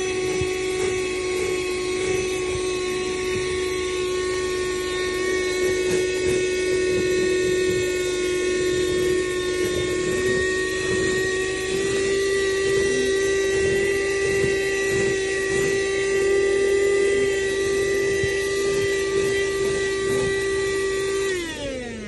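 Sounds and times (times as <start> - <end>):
handheld vacuum cleaner running: 0.0 - 22.0.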